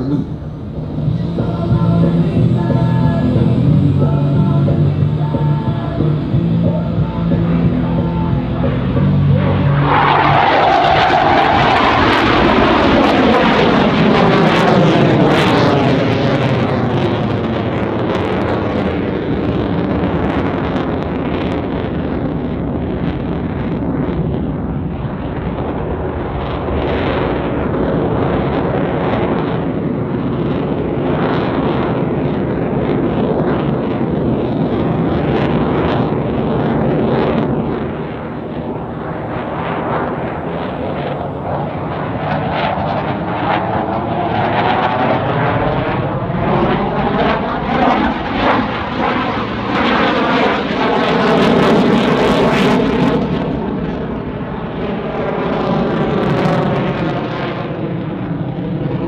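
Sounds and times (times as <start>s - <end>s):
jet fighter passing: 0.0s - 59.0s.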